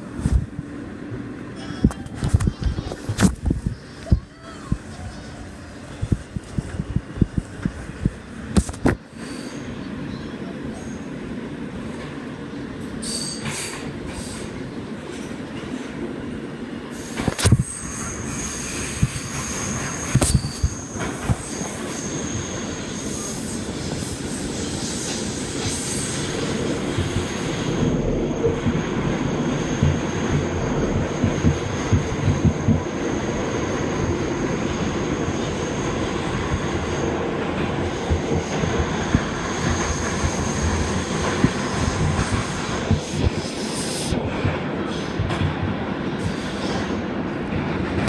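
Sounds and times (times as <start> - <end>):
subway train rumble and rattle: 0.0 - 48.0.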